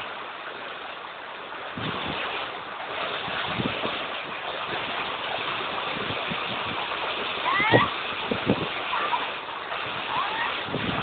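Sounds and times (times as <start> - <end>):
storm water rushing: 0.0 - 11.0
wind: 0.0 - 11.0
wind buffeting microphone: 1.5 - 11.0.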